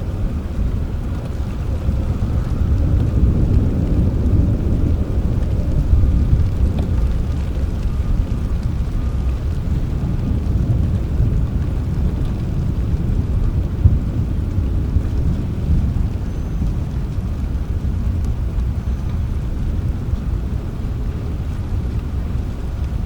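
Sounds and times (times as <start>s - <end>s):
rain: 0.0s - 23.0s
thunder rumbling: 0.0s - 23.0s.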